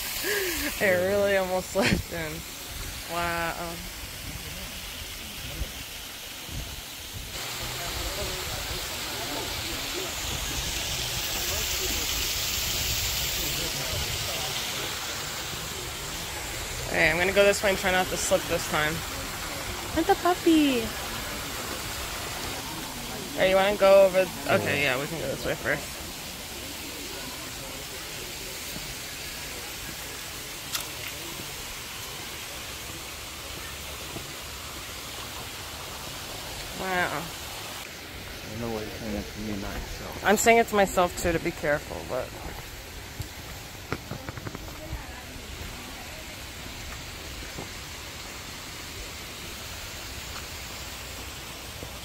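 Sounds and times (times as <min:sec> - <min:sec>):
outdoor background hiss: 0:00.0 - 0:52.0.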